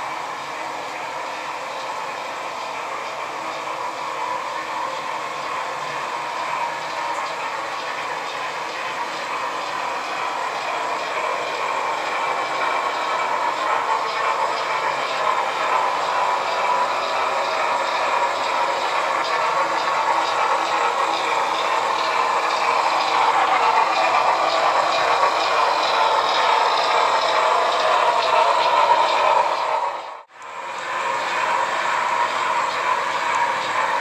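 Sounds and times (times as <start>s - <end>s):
model train rolling rumble: 0.0s - 34.0s.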